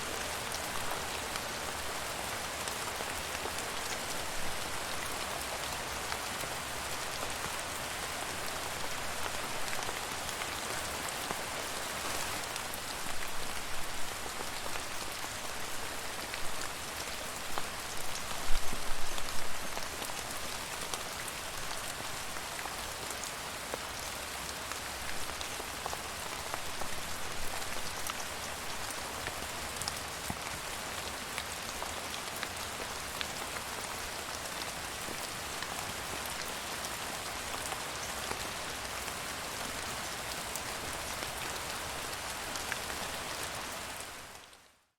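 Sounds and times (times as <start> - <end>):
steady rain pattering: 0.0 - 44.9.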